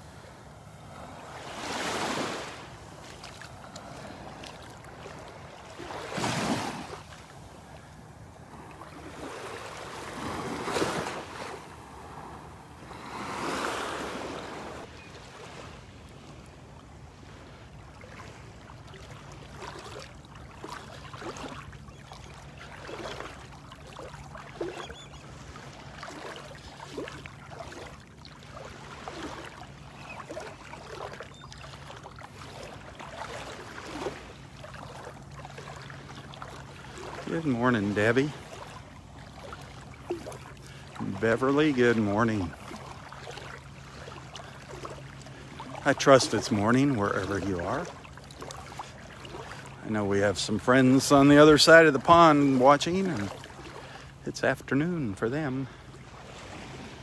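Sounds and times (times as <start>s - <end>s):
steps wading through water: 0.0s - 12.3s, 12.9s - 57.0s
small waves lapping: 0.0s - 57.0s.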